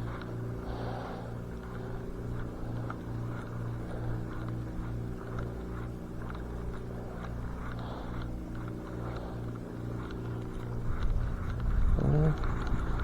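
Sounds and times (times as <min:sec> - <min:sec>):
faint ticks: 0:00.0 - 0:13.0
pulsing low engine hum: 0:00.0 - 0:13.0.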